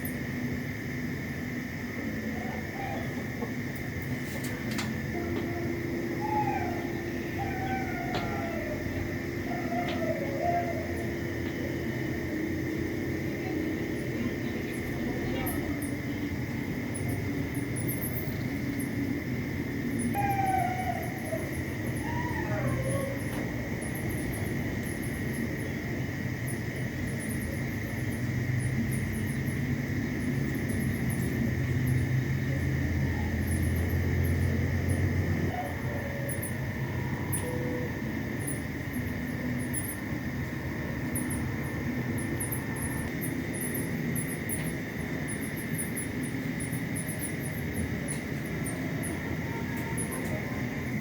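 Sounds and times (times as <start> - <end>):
high insect chirps: 0.0 - 51.0
insects trilling: 0.0 - 51.0.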